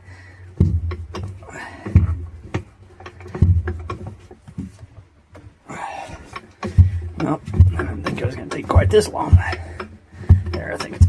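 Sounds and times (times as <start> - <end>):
bottle jack heavy thumps: 0.5 - 4.8, 6.2 - 11.0.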